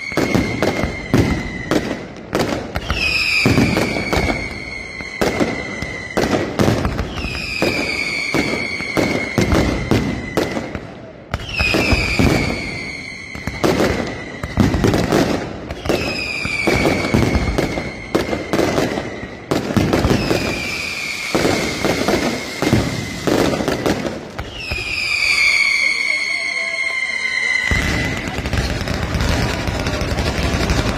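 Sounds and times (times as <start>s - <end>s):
firework bangs and crackling: 0.0s - 30.9s
whistling firework: 0.0s - 30.9s.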